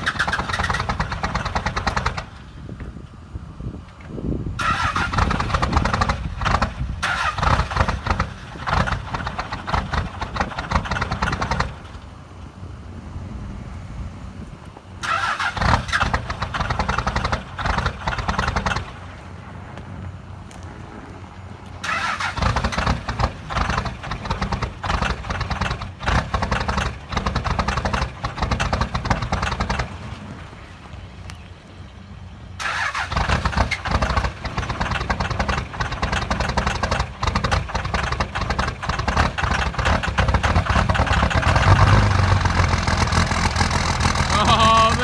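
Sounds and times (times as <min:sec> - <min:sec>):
diesel engine clattering: 0:00.0 - 0:13.0, 0:14.2 - 0:45.0.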